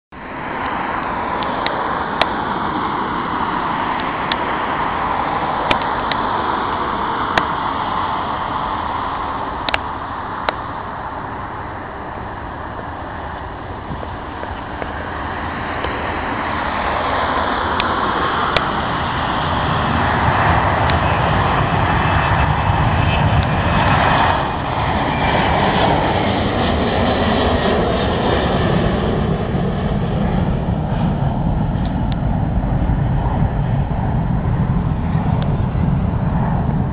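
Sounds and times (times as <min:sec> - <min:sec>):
jet airliner engines: 0:00.1 - 0:36.9.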